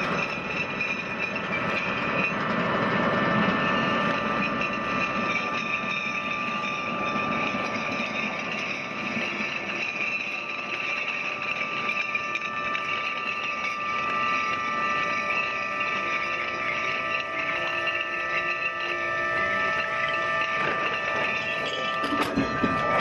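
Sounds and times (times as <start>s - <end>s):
heavy chains clattering: 0.0s - 23.0s
steady high tones: 0.0s - 23.0s.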